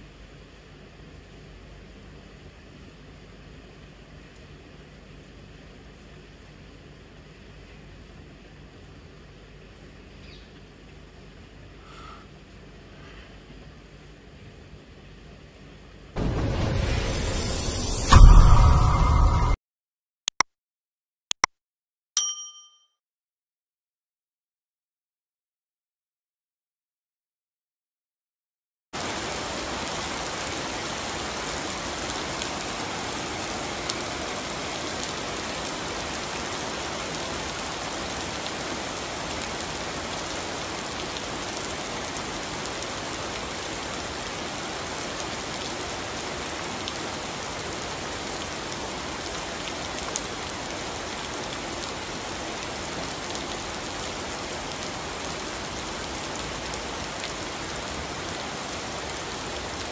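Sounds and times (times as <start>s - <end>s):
rain on roof tiles and pool: 0.0s - 17.8s, 29.0s - 59.9s.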